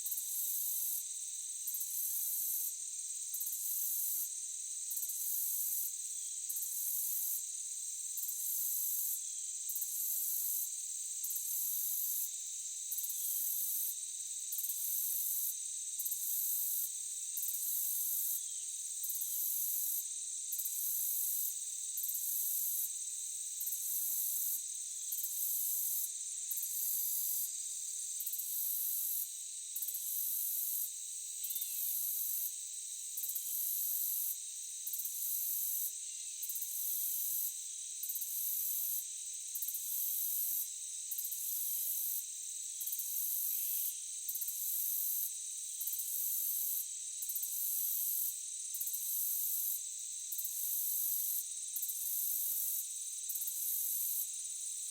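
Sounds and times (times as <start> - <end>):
insect chorus drone: 0.0 - 54.9.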